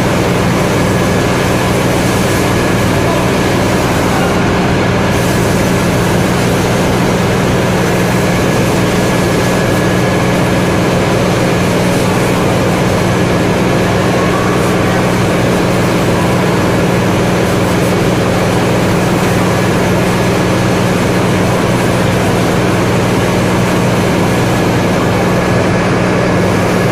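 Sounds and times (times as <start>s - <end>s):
packing machinery droning: 0.0s - 26.9s.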